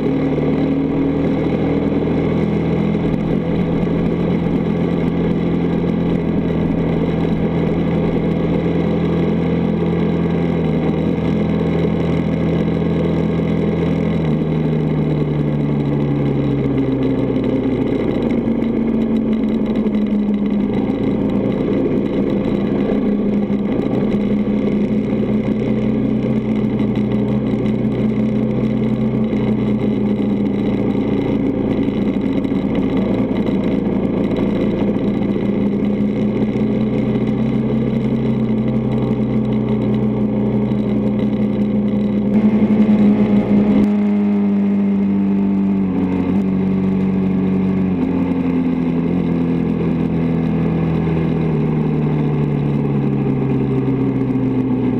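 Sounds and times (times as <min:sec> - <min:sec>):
dirt bike engine running: 0:00.0 - 0:54.9.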